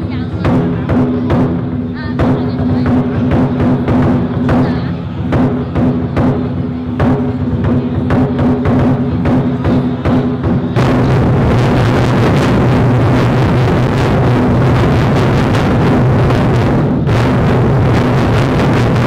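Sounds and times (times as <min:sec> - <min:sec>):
large drum strikes: 0:00.0 - 0:19.0
rapid drum roll: 0:00.0 - 0:19.0.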